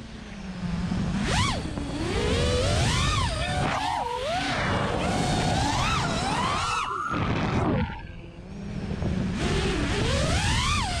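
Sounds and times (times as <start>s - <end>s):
drone motors whining: 0.0s - 11.0s
wind rumble on microphone: 0.4s - 11.0s.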